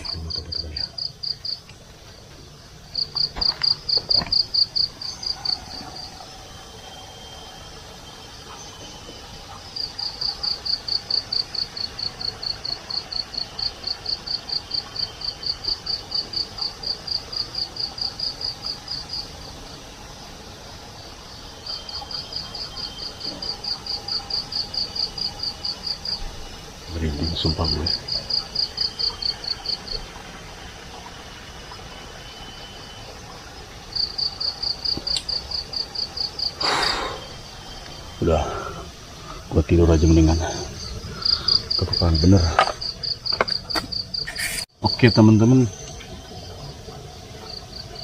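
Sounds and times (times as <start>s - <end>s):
night insect chirping: 0.0s - 48.0s.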